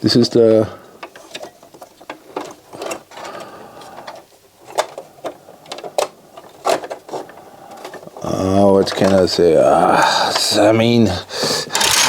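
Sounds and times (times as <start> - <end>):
clicks and rattles of small parts: 0.2 - 9.5, 11.6 - 12.0.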